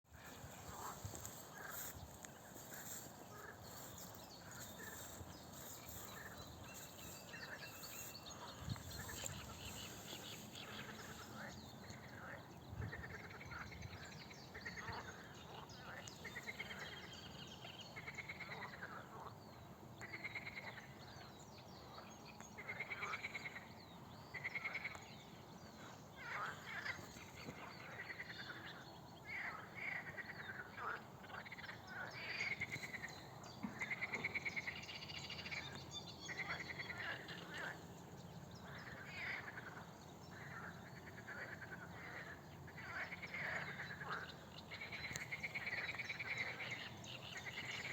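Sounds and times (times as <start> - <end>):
frogs croaking: 0.1 - 17.3, 17.9 - 19.3, 20.0 - 21.0, 22.6 - 23.7, 24.3 - 25.0, 26.1 - 47.9.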